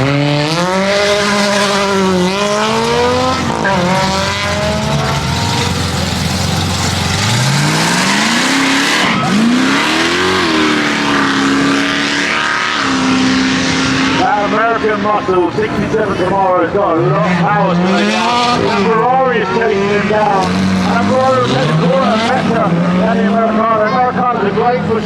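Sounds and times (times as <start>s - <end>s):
cars accelerating hard: 0.0s - 25.0s.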